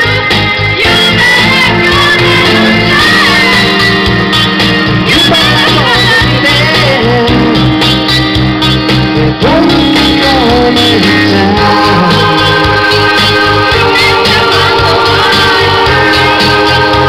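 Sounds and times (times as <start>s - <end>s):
karaoke singing through microphones: 0.0s - 17.0s
pop backing track: 0.0s - 17.0s.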